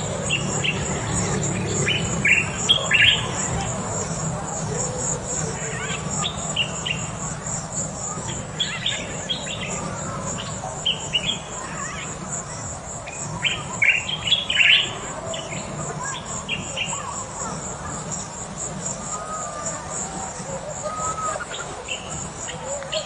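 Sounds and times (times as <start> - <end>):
bird chirps: 0.0 - 4.3, 5.0 - 23.0
pulsing insect trill: 0.0 - 23.0.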